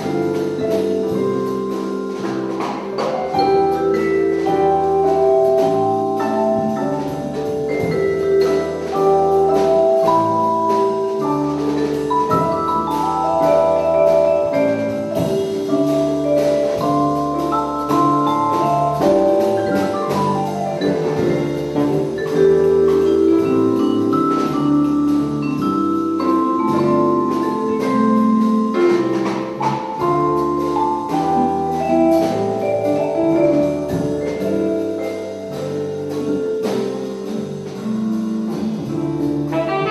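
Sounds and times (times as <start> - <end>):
jazz ensemble playing: 0.0 - 39.9
vibraphone melody: 0.0 - 39.9.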